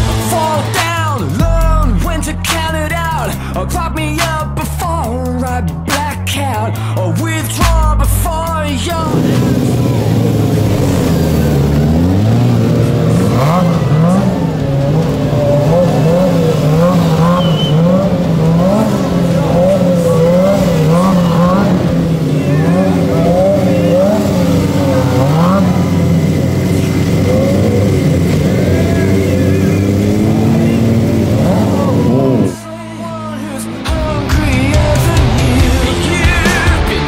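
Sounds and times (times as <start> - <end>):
motorcycle engine revving: 0.0 - 6.6, 7.2 - 37.0.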